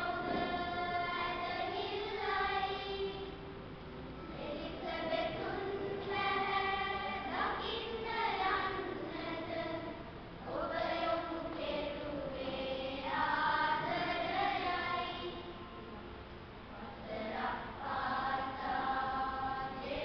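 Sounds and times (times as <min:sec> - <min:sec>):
children's choir singing: 0:00.0 - 0:03.6, 0:04.2 - 0:16.0, 0:16.7 - 0:20.0.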